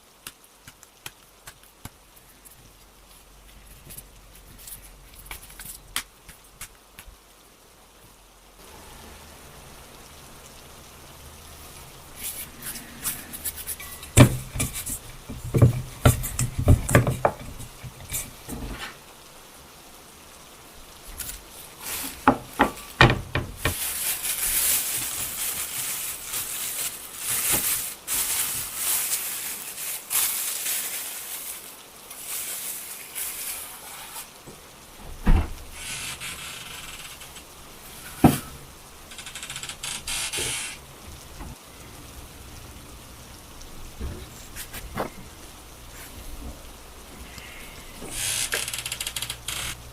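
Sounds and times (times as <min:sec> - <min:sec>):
steady hissing: 0:00.0 - 0:49.9.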